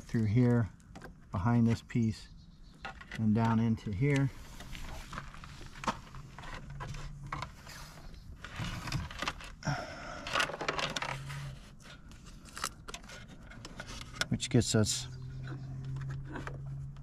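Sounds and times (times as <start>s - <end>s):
wires rustling and scraping: 2.8s - 17.0s.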